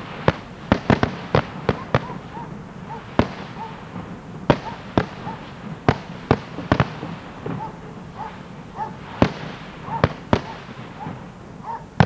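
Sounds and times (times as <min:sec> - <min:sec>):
firework shells bursting: 0:00.0 - 0:11.4
steady hiss: 0:00.0 - 0:12.0.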